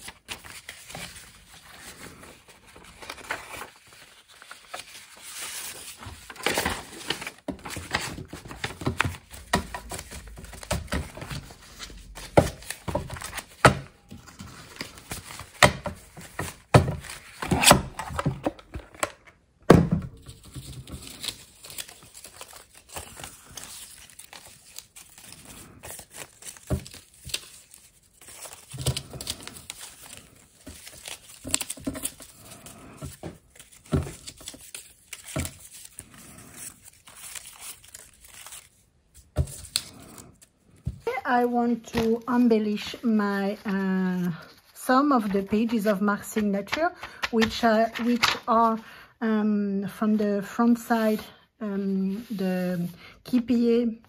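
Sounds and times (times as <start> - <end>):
paper rustling and crinkling: 0.0 - 19.4, 20.1 - 48.8.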